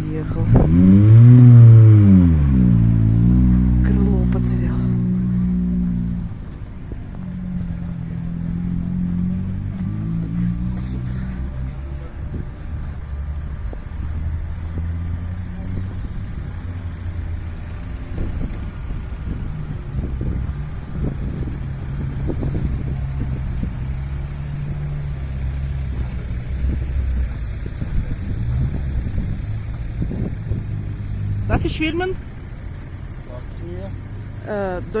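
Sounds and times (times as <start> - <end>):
rally car engine idling: 0.0 - 35.0.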